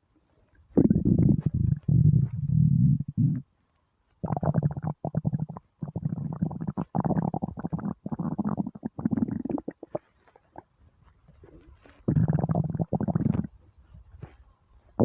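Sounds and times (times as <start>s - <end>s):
stomach growling and gurgling: 0.6s - 3.5s, 4.2s - 13.6s.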